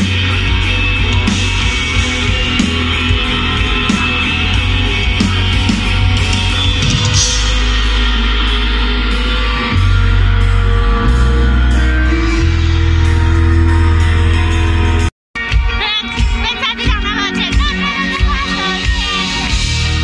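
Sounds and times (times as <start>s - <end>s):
drums: 0.0s - 20.0s
electric guitar: 0.0s - 20.0s
held bass notes: 0.0s - 20.0s.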